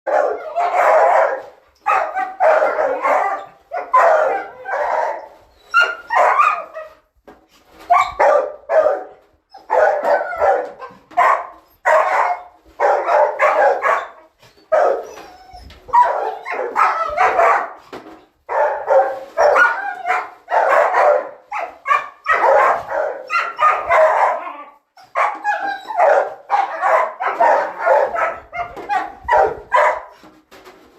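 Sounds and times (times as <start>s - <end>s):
dog barking and yipping: 0.1s - 7.0s, 7.8s - 30.2s.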